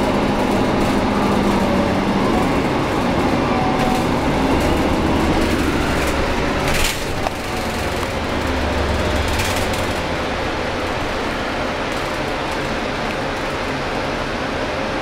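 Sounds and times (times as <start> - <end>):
bus diesel engine drone: 0.0 - 15.0
road and rattle noise: 0.0 - 15.0.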